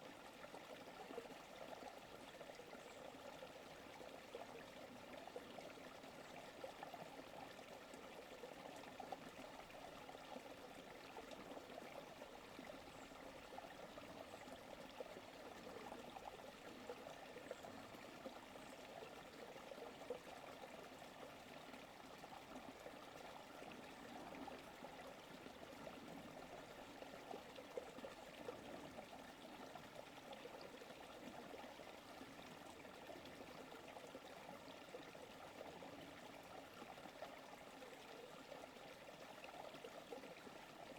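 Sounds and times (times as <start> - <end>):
creek flowing and trickling: 0.0 - 40.9.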